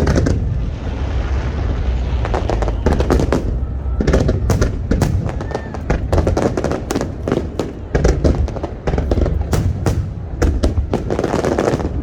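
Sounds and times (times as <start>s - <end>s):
deep rumble of booms: 0.0s - 12.0s
firework bangs and crackles: 0.0s - 12.0s.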